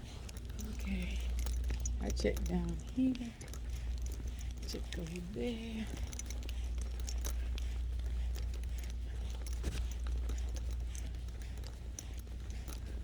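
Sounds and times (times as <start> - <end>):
light clicks and taps: 0.0 - 13.0.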